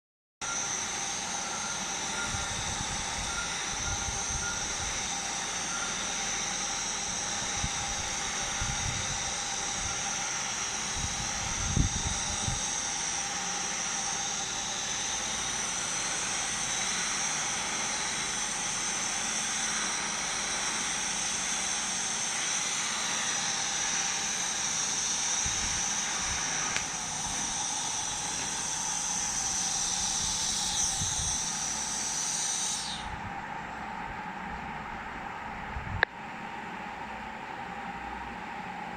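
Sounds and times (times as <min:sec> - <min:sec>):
thin high steady tone: 0:00.4 - 0:35.5
welding arc hissing: 0:00.5 - 0:33.2.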